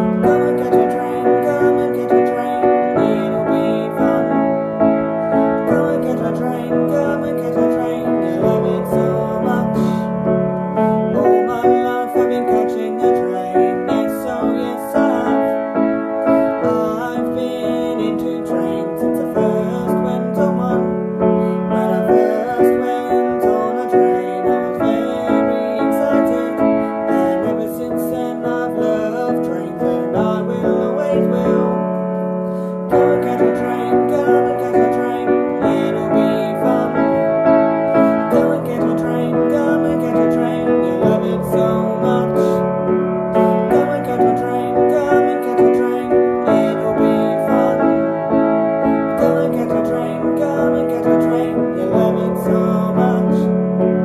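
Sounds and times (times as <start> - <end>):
piano chords: 0.0 - 54.0.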